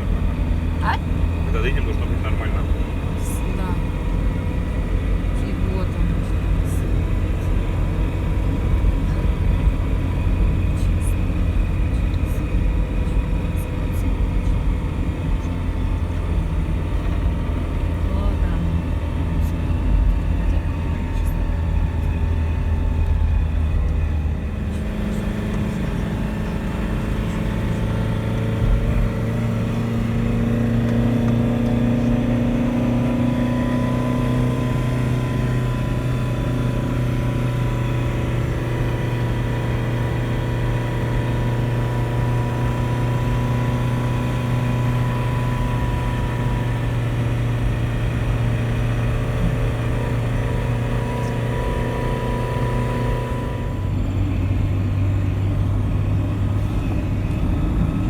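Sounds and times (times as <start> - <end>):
car engine running under load: 0.0 - 58.0
tyre and road noise: 0.0 - 58.0.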